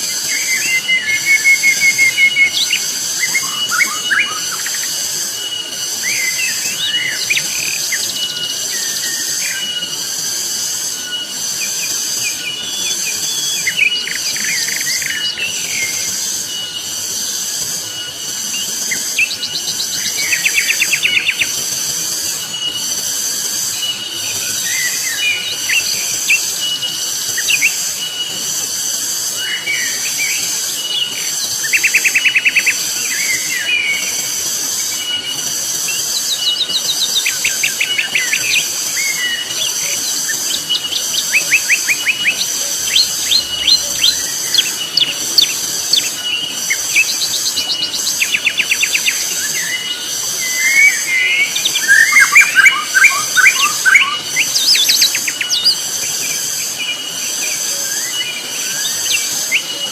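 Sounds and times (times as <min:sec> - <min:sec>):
birds trilling and chirping: 0:00.0 - 0:59.9
cicada chorus: 0:00.0 - 0:59.9.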